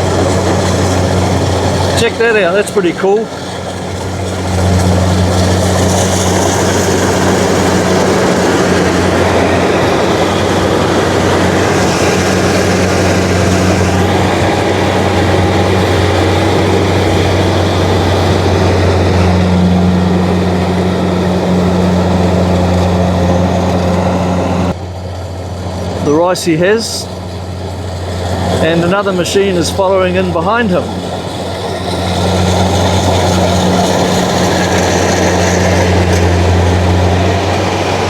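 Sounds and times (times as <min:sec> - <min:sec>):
combine harvester engine hum: 0:00.0 - 0:38.0.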